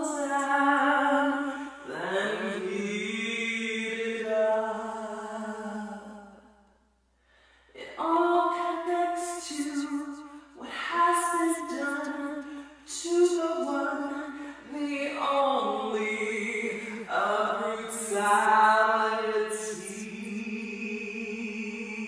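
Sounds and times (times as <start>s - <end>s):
woman singing unaccompanied: 0.0s - 6.2s, 7.8s - 22.0s.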